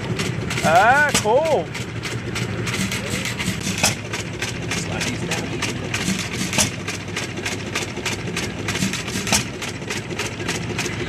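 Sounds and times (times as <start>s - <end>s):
engine firing stroke: 0.0s - 11.0s
gas engine clattering: 0.0s - 11.0s.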